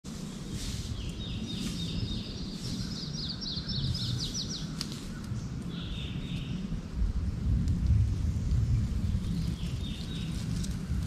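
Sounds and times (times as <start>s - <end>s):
low steady rumble: 0.1s - 11.0s
songbird singing: 0.1s - 11.0s.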